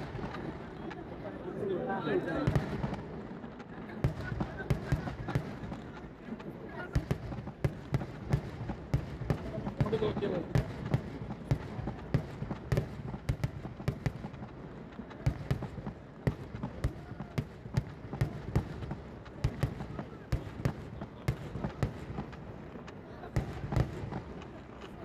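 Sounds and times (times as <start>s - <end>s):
fireworks bangs and cracks: 0.0s - 25.0s.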